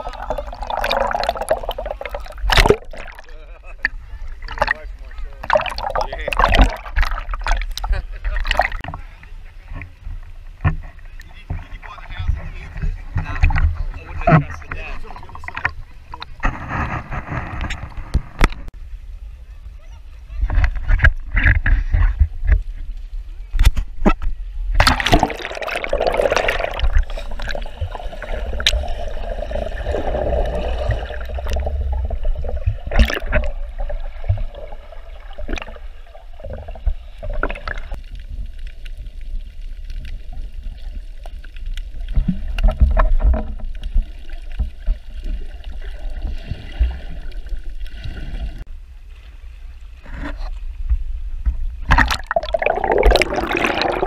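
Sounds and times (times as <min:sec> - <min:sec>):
water sloshing and gurgling: 0:00.0 - 0:18.8, 0:23.6 - 0:54.0.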